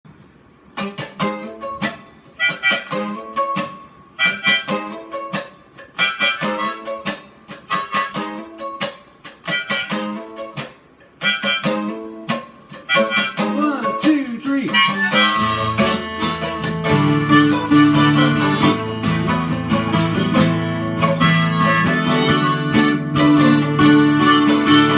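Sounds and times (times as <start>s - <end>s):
strummed acoustic guitar: 0.5s - 24.9s
harmonica melody: 0.8s - 24.9s.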